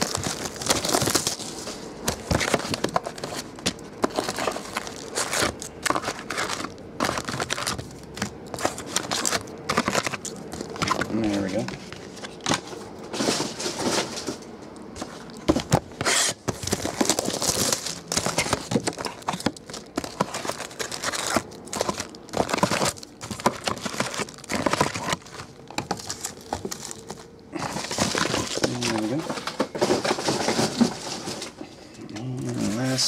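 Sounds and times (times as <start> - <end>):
foil tearing: 0.0 - 12.2, 16.0 - 31.4
cardboard boxes clicking: 0.0 - 12.6, 15.4 - 31.0
foil packs crinkling: 0.0 - 31.6, 32.2 - 33.0.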